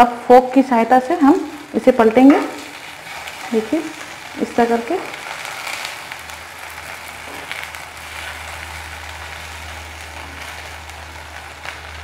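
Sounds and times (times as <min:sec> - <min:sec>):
food sizzling in oil: 0:00.3 - 0:12.0.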